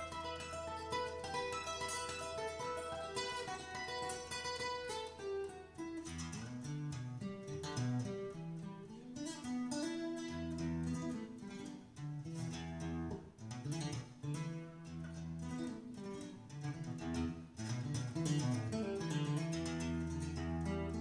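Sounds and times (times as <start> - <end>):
plucked guitar lines: 0.0 - 21.0.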